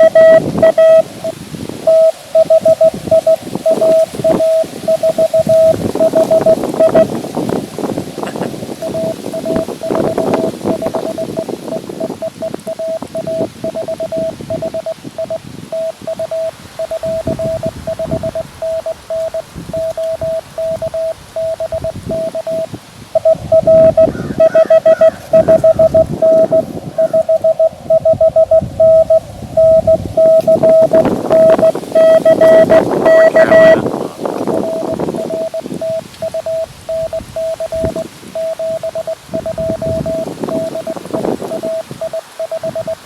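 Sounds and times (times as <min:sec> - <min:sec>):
morse code tones: 0:00.0 - 0:43.0.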